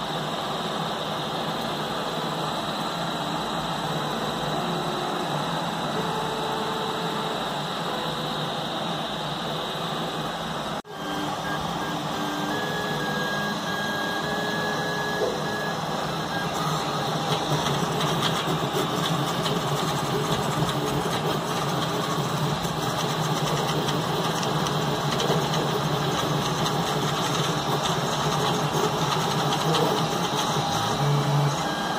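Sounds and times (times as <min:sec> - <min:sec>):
mechanical whir: 0:00.0 - 0:31.9
stepper motors whining: 0:02.4 - 0:09.8, 0:10.8 - 0:31.9.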